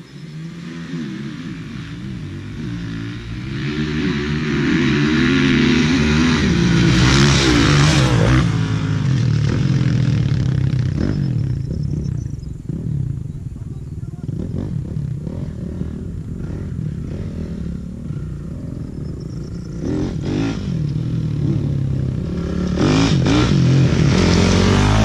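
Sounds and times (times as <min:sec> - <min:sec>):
motocross bike revving: 0:00.0 - 0:25.0.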